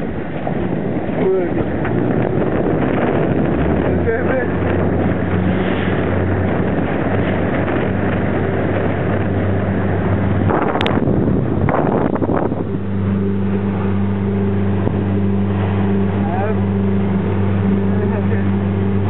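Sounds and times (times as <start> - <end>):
outboard motor humming: 0.0 - 19.0
water rushing past hull: 0.0 - 19.0
wind buffeting microphone: 0.0 - 19.0.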